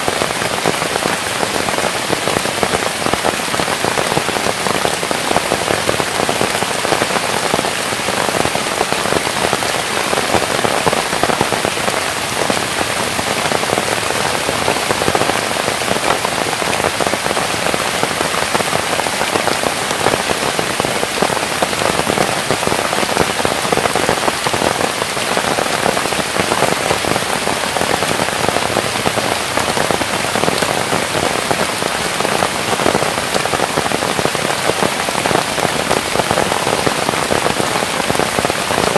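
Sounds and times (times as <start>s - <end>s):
patter of falling water: 0.0s - 38.9s.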